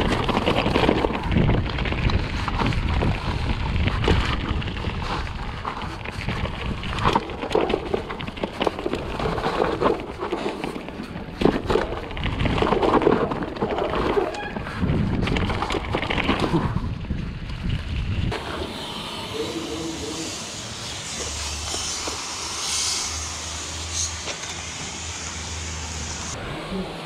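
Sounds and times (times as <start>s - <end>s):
bike tyres rolling and skidding: 0.0s - 26.4s.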